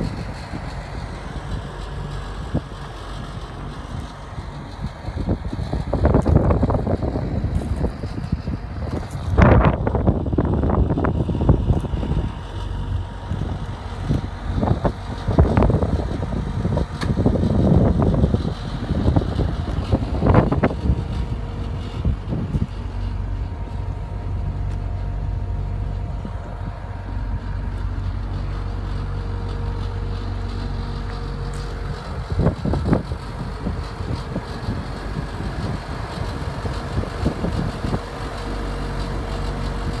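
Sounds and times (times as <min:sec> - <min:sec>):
engine idling: 0:00.0 - 0:40.0.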